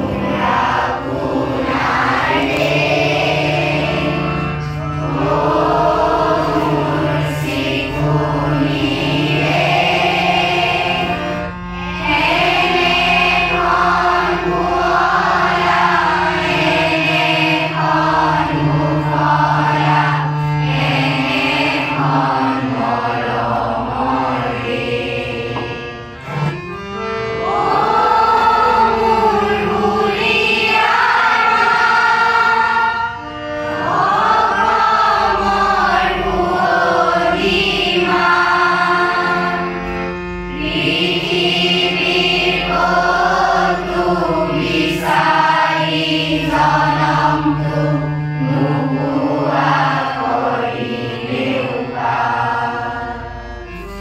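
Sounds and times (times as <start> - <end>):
students singing in unison: 0.0 - 26.6, 27.4 - 53.9
harmonium drone: 0.0 - 54.0.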